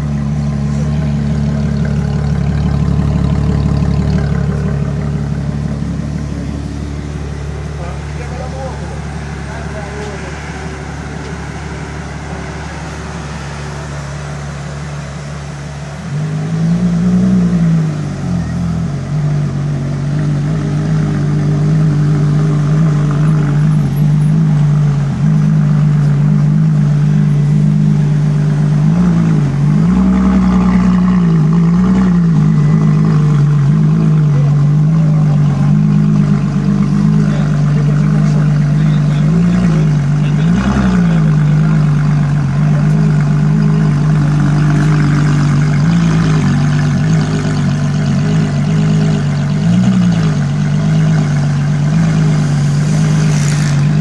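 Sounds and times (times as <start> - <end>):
engine throttle blips: 0.0 - 54.0
sports car engine idling: 0.0 - 54.0.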